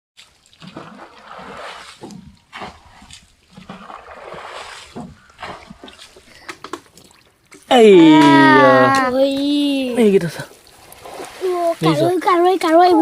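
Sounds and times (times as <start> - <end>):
water splashing: 0.2 - 13.0.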